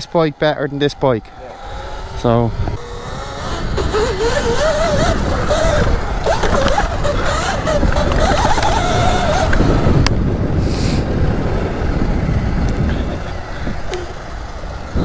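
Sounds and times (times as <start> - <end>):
electric motor whining: 0.0 - 15.0
wind rumble on microphone: 0.0 - 15.0.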